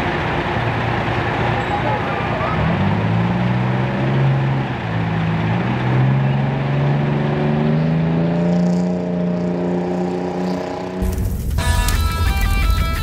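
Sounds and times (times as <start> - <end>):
diesel truck engine accelerating: 0.0 - 13.0.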